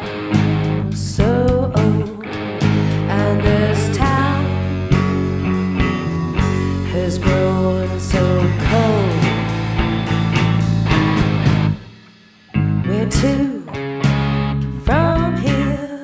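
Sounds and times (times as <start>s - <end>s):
electric guitar: 0.0s - 16.0s
live rock band: 0.0s - 16.0s.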